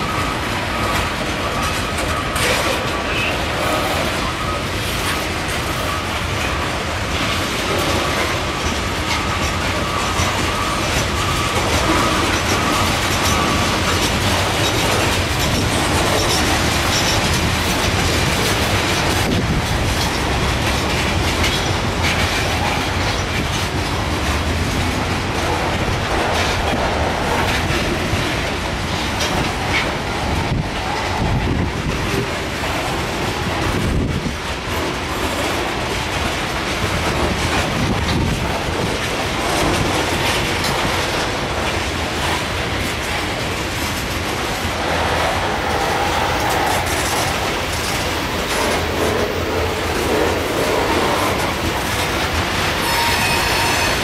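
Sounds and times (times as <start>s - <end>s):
clacks over rail joints: 0.0s - 54.0s
train wheels rumbling on rail: 0.0s - 54.0s.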